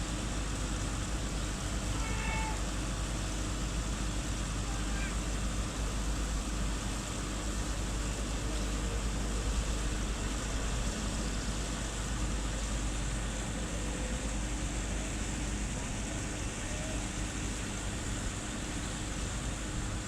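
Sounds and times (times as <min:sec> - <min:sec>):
ship engine droning: 0:00.0 - 0:20.0.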